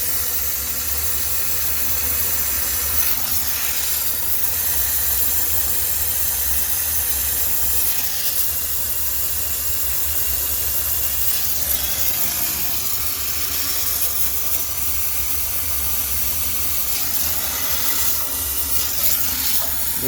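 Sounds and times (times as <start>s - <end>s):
steam cleaner hissing: 0.0s - 20.0s.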